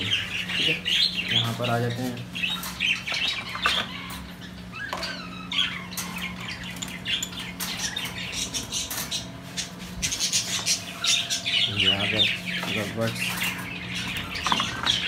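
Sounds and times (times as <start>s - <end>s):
budgerigars chirping and squawking: 0.0s - 15.0s
steady low hum: 0.0s - 15.0s.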